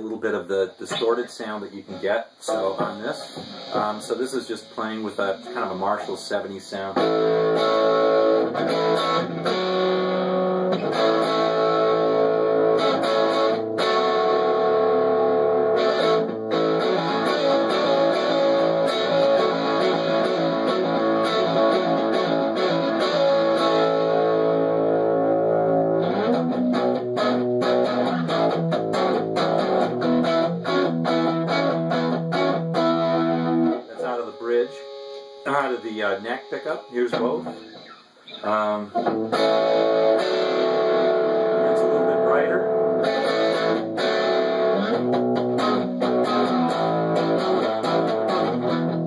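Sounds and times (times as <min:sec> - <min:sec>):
distorted electric guitar: 0:00.0 - 0:49.0.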